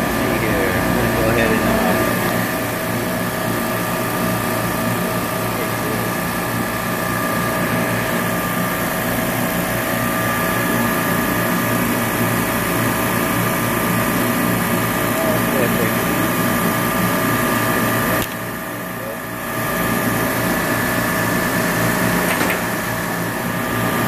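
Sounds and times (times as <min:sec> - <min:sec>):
refrigeration compressor hum: 0:00.0 - 0:24.0
steady machine tones: 0:00.0 - 0:24.0.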